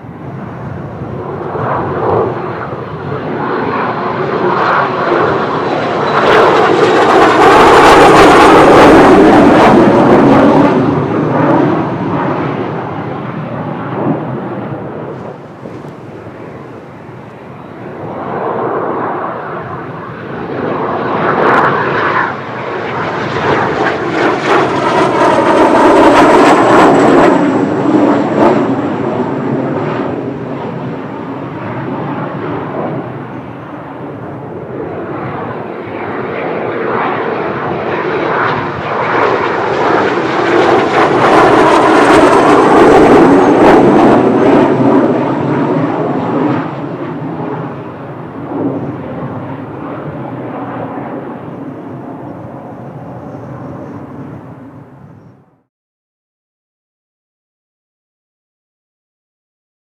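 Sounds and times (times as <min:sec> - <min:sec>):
high turbine whine: 0:00.0 - 0:55.5
jet engine roar: 0:00.0 - 0:55.7.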